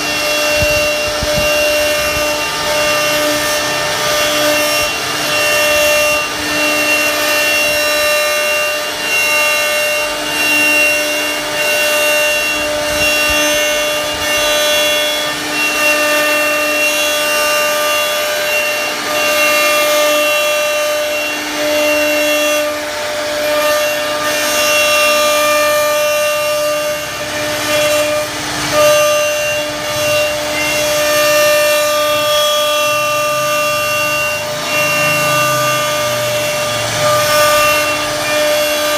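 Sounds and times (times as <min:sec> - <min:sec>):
bit rasping through wood: 0:00.0 - 0:38.9
router spindle whining: 0:00.0 - 0:38.9.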